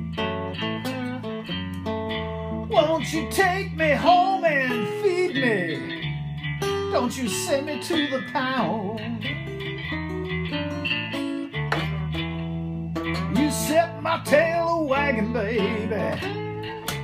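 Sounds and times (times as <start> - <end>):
solo acoustic guitar melody: 0.0 - 17.0.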